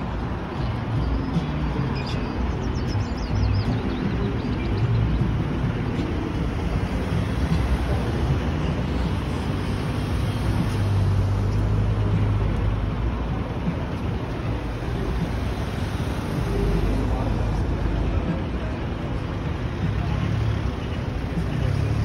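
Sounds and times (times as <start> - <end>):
engine hum: 0.0 - 22.0
low rumble of motor traffic: 0.0 - 22.0.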